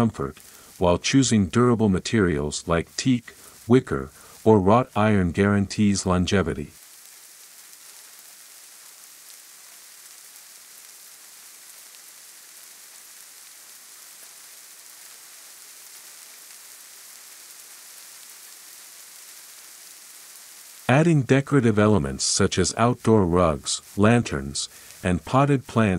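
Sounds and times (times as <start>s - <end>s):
soft steady hiss: 0.0s - 25.9s.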